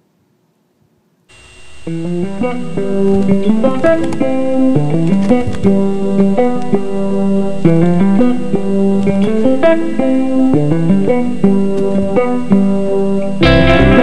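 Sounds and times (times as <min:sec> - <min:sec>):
plucked guitar melody: 0:01.8 - 0:14.0.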